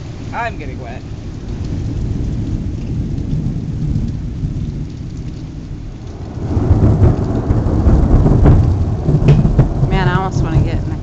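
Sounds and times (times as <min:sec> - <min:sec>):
low rumble of thunder: 0:00.0 - 0:11.0
steady rain: 0:00.0 - 0:11.0.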